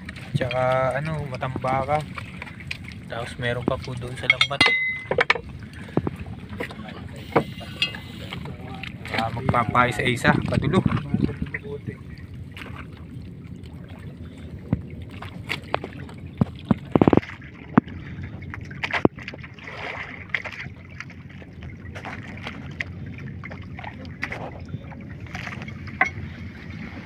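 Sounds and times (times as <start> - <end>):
water dripping and sloshing: 0.0 - 27.0.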